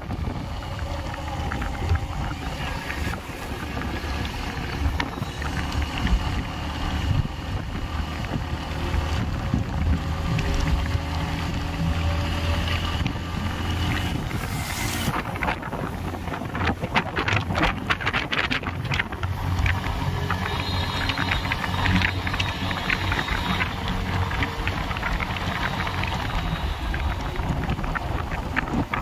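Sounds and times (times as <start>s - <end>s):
wind on microphone: 0.0s - 29.0s.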